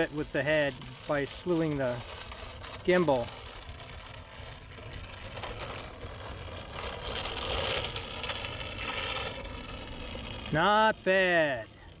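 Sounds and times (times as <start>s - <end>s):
robot wheel motors whirring: 0.0s - 12.0s.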